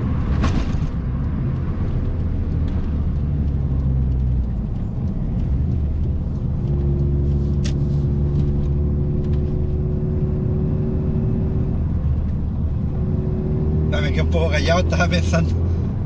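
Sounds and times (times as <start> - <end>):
car engine through loud exhaust: 0.0 - 16.0.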